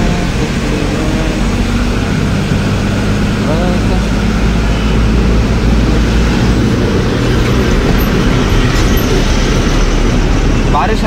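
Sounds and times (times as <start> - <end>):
road noise: 0.0 - 11.0
truck engine hum: 0.0 - 11.0
wind noise: 0.0 - 11.0.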